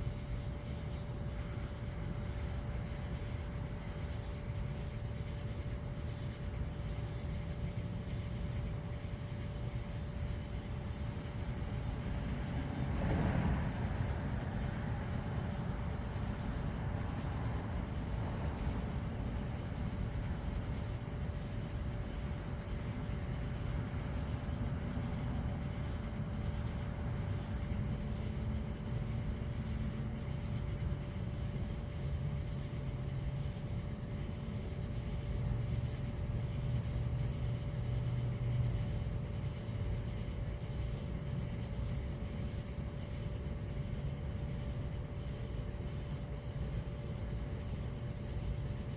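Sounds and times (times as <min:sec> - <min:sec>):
faint constant hum: 0:00.0 - 0:48.9.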